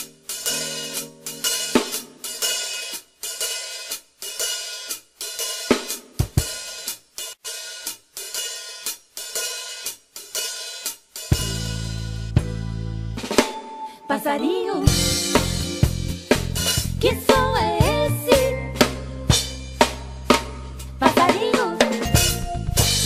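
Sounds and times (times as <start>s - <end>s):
drum kit playing: 0.0s - 13.9s, 14.8s - 23.0s.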